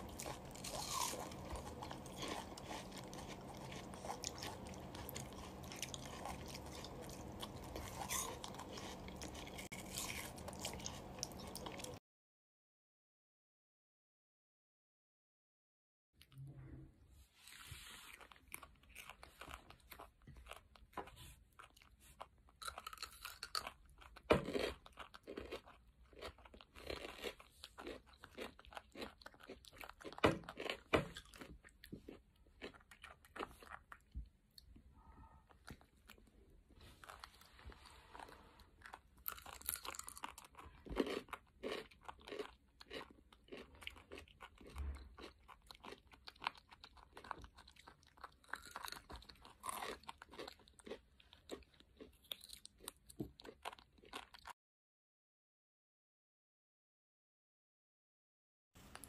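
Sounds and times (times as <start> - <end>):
crunching and chewing radishes: 0.0 - 12.0, 17.4 - 54.6.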